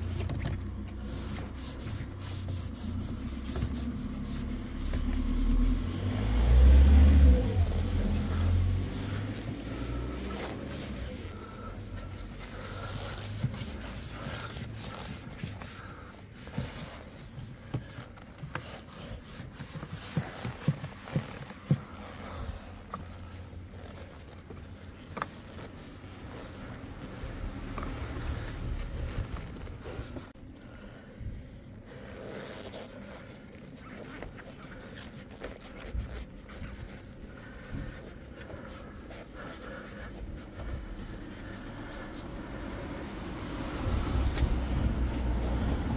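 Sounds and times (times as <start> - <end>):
cloth wiping over plastic: 0.0 - 30.4, 31.9 - 45.9.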